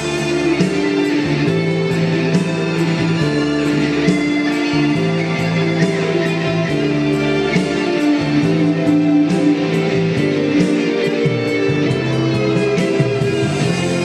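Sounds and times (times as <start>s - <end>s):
keyboard chords: 0.0s - 14.0s
picked guitar notes: 0.0s - 14.0s.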